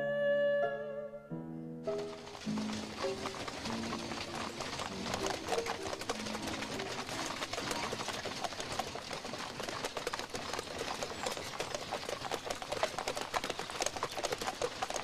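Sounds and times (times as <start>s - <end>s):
hooves clip-clopping on cobblestones: 1.9s - 15.0s.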